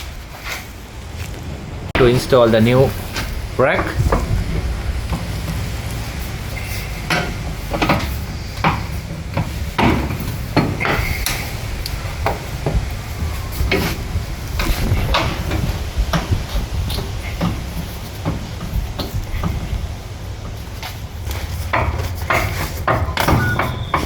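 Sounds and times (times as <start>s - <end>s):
steady low rumble: 0.0s - 22.3s
metal clanks and knocks: 2.0s - 24.0s.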